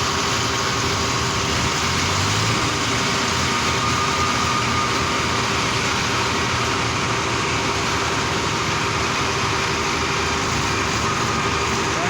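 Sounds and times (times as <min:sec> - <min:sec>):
heavy machine engine chugging: 0:00.0 - 0:12.0.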